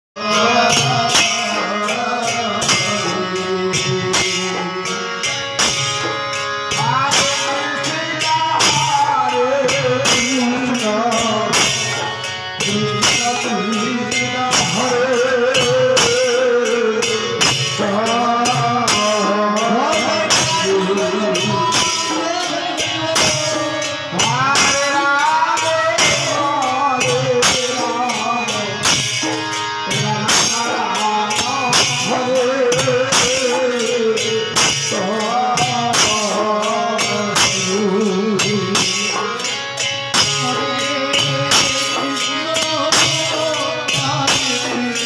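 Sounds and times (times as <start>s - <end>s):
hand drums beaten fast: 0.2s - 45.0s
jingling hand cymbals: 0.2s - 45.0s
men singing devotional chant: 0.2s - 45.0s.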